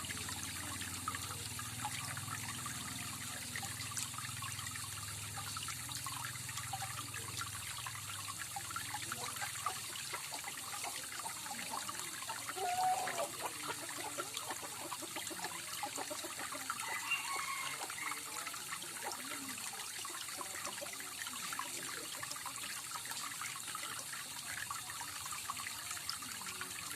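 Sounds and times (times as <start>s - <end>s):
water trickling and splashing: 0.0s - 26.9s.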